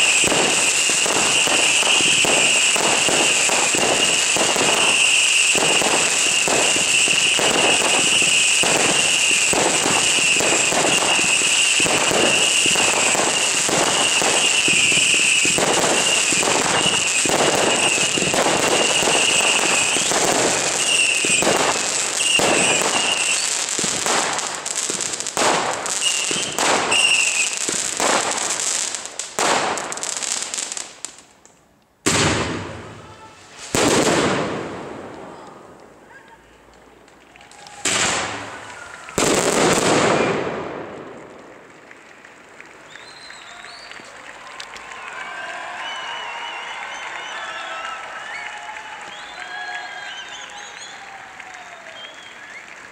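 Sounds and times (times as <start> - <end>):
loud firework volleys: 0.0 - 31.2, 32.0 - 36.1, 36.8 - 52.9
fireworks shots and crackling: 0.0 - 31.3, 32.0 - 36.0, 37.0 - 44.1.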